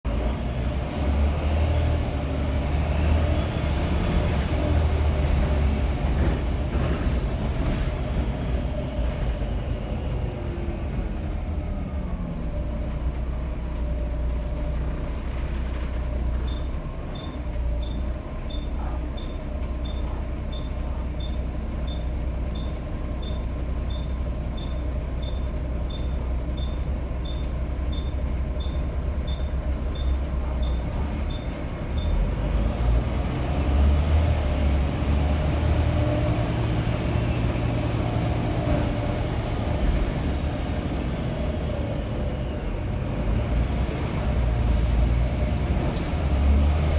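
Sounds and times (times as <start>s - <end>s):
bus diesel engine droning: 0.1s - 46.9s.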